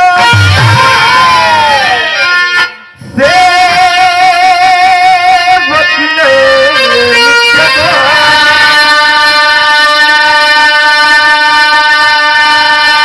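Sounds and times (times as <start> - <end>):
harmonium drone: 0.0 - 13.0
man singing wavering note: 2.0 - 13.0.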